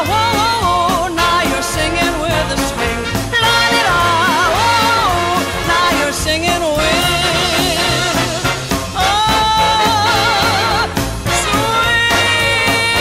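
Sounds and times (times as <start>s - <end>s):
bass line: 0.0s - 13.0s.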